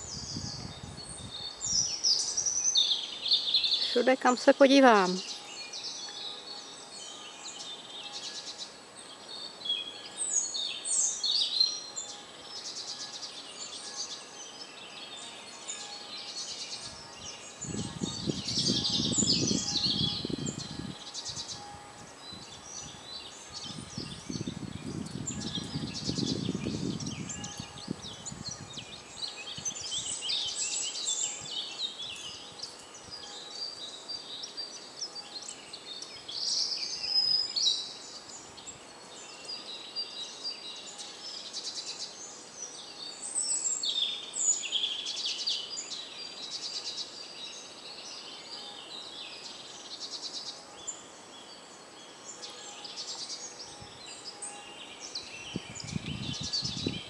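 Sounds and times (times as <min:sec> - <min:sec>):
songbirds singing and calling: 0:00.0 - 0:57.0.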